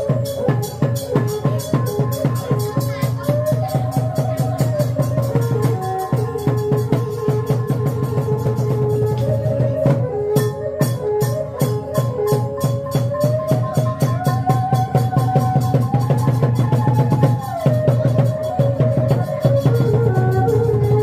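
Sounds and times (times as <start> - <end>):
drum and percussion strokes: 0.0 - 21.0.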